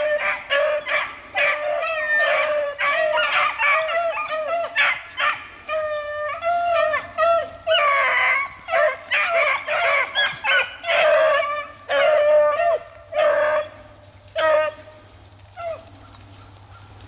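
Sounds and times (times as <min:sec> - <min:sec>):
beagles baying: 0:00.0 - 0:17.0.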